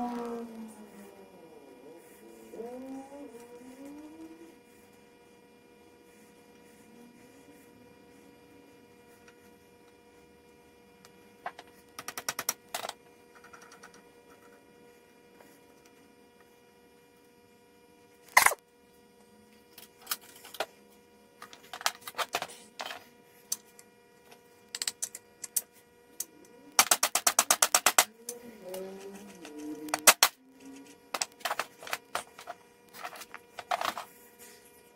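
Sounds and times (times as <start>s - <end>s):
steady electrical hum: 0.0s - 34.9s.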